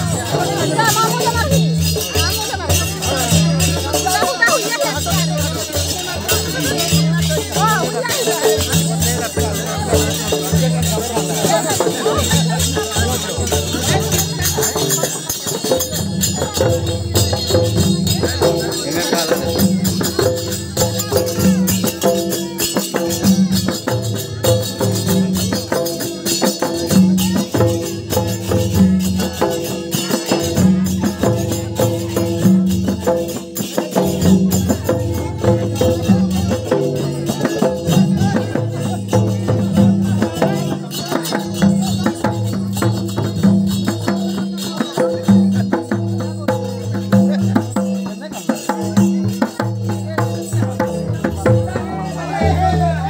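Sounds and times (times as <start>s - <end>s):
hand drum rhythm: 0.0s - 53.0s
jingling metal percussion: 0.0s - 53.0s.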